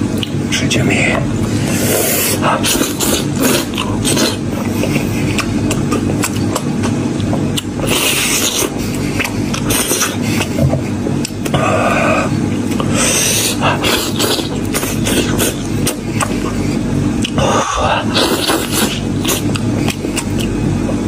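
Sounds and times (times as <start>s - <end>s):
person chewing meat: 0.0s - 0.5s, 1.2s - 21.0s
steady low hum: 0.0s - 21.0s.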